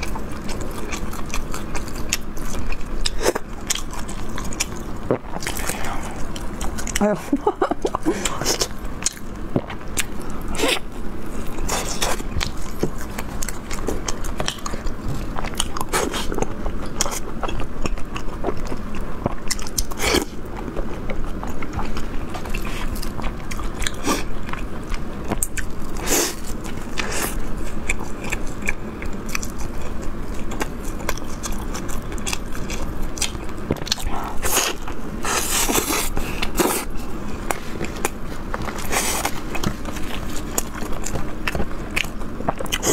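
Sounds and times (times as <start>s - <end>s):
person chewing crunchy bread: 0.0s - 42.9s.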